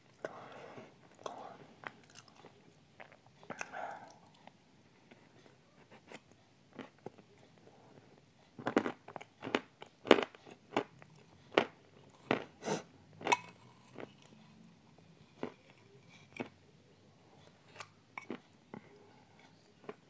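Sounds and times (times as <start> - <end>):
person chewing dessert: 0.1 - 5.2, 6.1 - 7.7, 8.5 - 16.6, 17.4 - 20.0.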